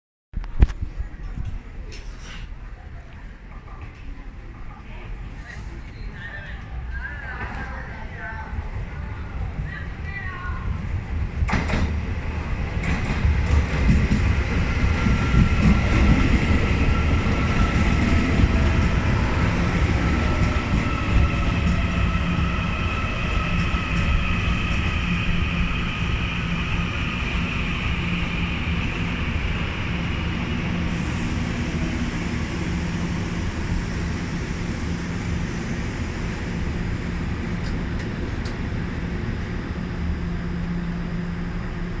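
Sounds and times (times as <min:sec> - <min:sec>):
train wheels rumbling on rail: 0:00.4 - 0:42.0.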